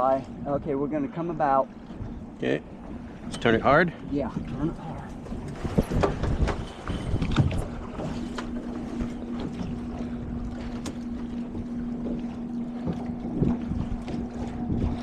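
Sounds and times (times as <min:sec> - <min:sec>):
steady low hum: 0:00.0 - 0:15.0
water sounds: 0:00.0 - 0:15.0
wind on microphone: 0:01.9 - 0:15.0.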